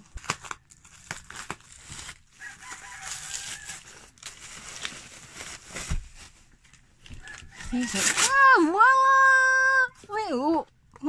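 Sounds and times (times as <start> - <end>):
bubble wrap and paper crinkling: 0.0 - 9.3.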